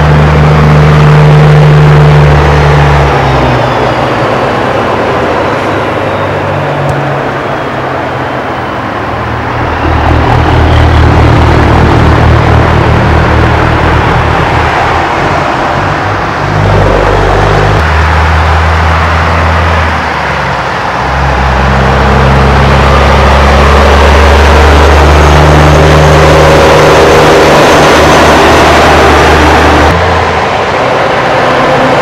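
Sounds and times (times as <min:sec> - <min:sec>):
trucks passing: 0:00.0 - 0:32.0.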